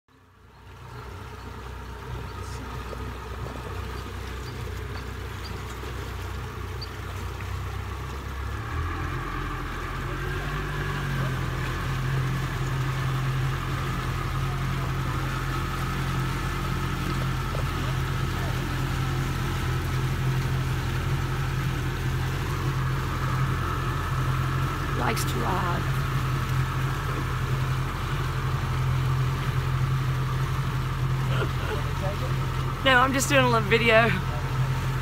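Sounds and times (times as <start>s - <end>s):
outboard motor running: 0.1s - 35.0s
water against boat hull: 0.1s - 35.0s.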